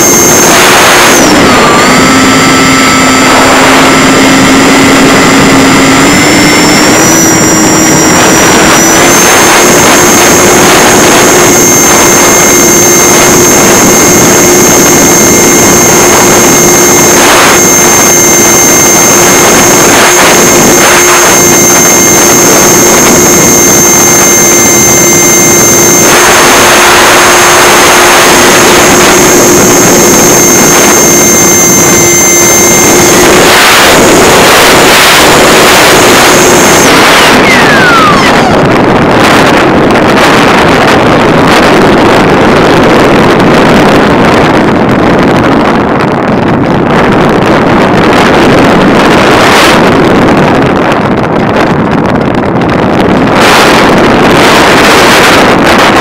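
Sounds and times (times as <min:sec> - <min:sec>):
model plane motor buzzing: 0:00.0 - 0:56.0
wind rushing over microphone: 0:00.0 - 0:56.0.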